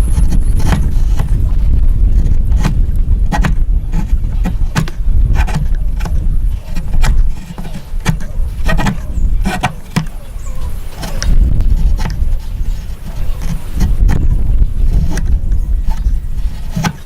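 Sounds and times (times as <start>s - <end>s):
steady low rumble: 0.0s - 16.7s
tools tapping on wood: 2.2s - 14.4s, 15.0s - 17.0s.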